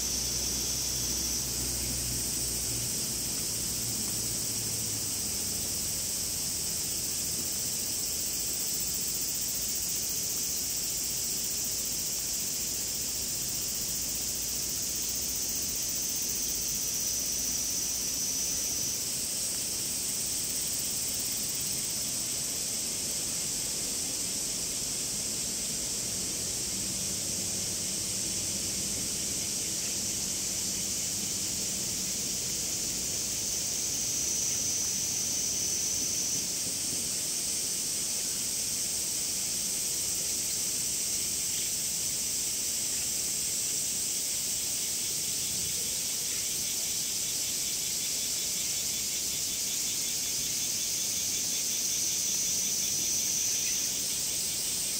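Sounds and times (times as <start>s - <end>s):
cicadas calling: 0.0s - 54.9s.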